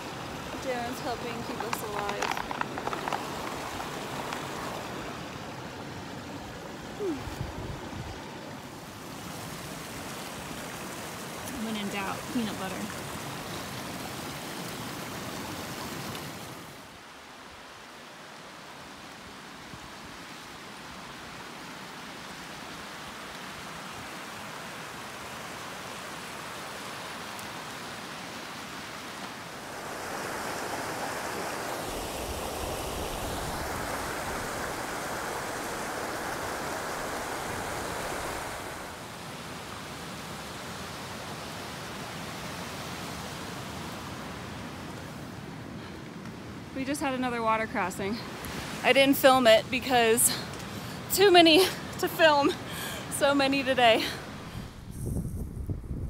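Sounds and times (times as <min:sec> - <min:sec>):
creek rushing over rocks: 0:00.0 - 0:54.9.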